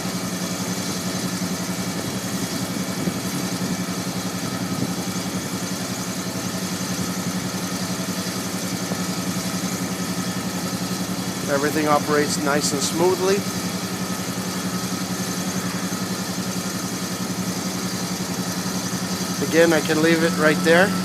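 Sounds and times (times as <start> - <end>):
hydraulic pump humming: 0.0 - 21.0.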